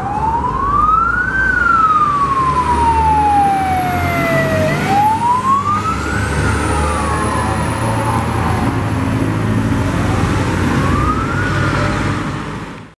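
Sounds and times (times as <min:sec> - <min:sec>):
fire engine siren wailing: 0:00.0 - 0:12.6
low traffic and engine rumble: 0:00.0 - 0:12.9.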